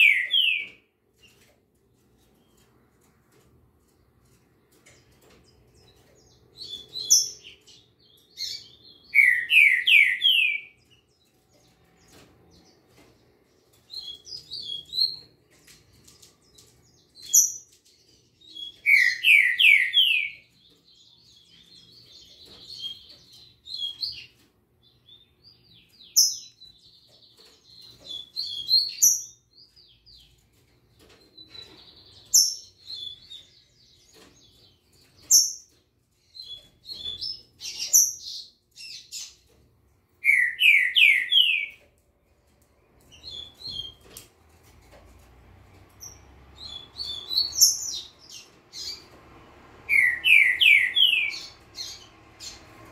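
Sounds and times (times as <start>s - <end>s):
songbirds chirping and warbling: 0.0s - 52.9s.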